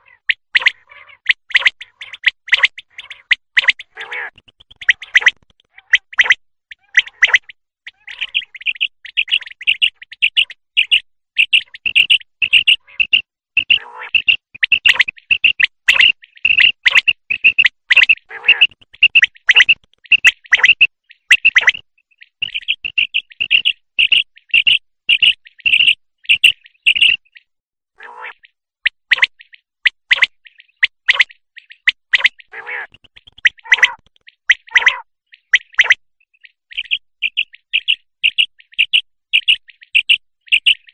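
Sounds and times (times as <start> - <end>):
quail chirping: 0.0 - 40.9.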